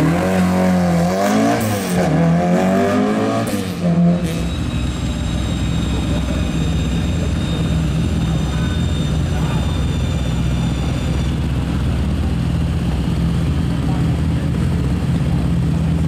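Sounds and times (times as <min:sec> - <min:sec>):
car engine revving: 0:00.0 - 0:16.0
low engine drone: 0:02.1 - 0:16.0.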